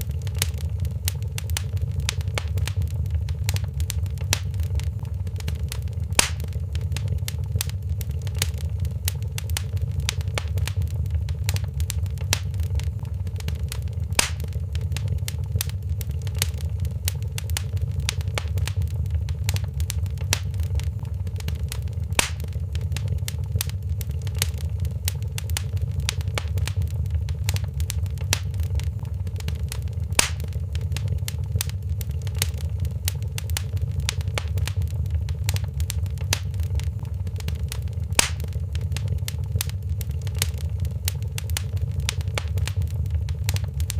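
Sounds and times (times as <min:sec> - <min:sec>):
fire crackling: 0:00.0 - 0:43.9
loud fire pops: 0:00.0 - 0:43.9
low rumble of flames: 0:00.0 - 0:43.9.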